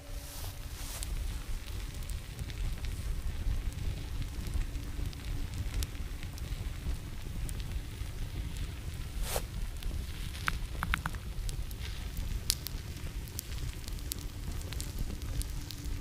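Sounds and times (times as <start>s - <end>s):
fire burning with crackles: 0.0s - 16.0s.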